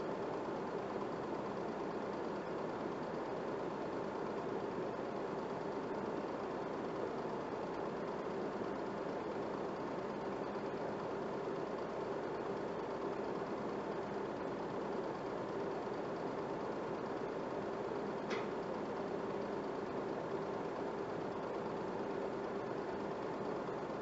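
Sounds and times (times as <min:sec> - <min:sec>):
movie projector whirring: 0:00.0 - 0:24.0.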